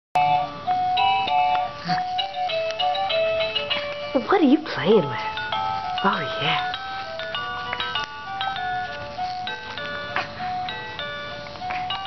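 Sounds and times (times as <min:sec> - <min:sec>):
toy electronic melody: 0:00.2 - 0:12.0.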